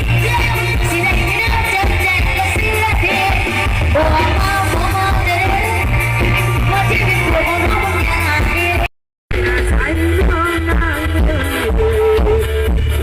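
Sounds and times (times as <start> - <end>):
heavy bass: 0.0 - 13.0
live band over loudspeakers: 0.0 - 13.0
person singing: 0.0 - 13.0.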